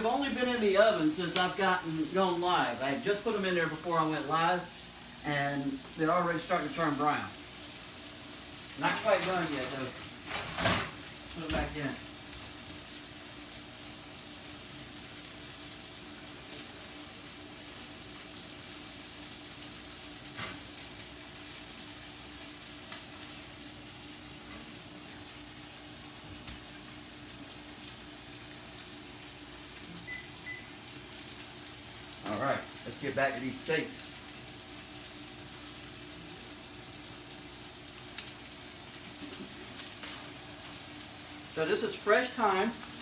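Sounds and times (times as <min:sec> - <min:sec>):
steak sizzling in a skillet: 0:00.0 - 0:43.0.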